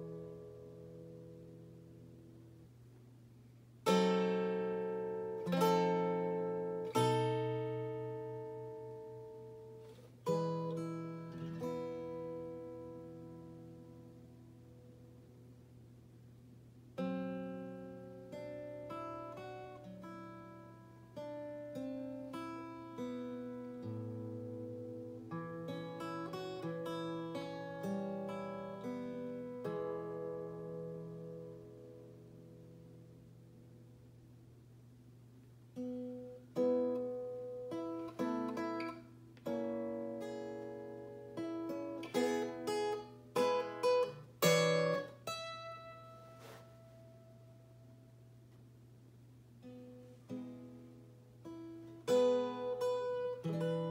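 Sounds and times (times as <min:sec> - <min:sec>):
acoustic guitar jazz chords: 0:00.0 - 0:53.9.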